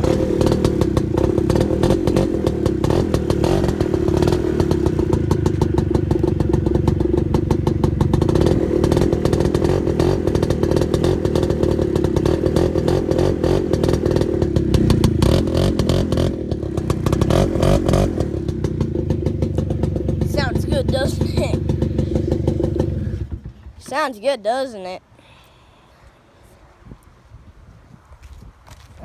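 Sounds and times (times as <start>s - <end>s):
quad engine running: 0.0s - 24.6s.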